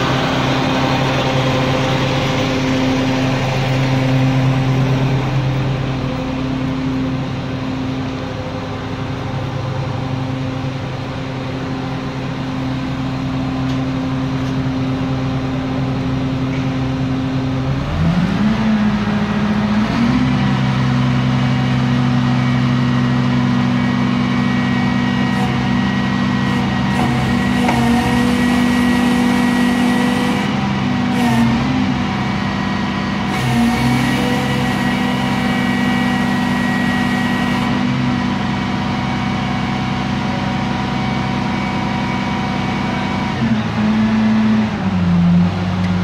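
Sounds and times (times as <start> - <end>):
garbage truck engine hum: 0.0 - 46.0.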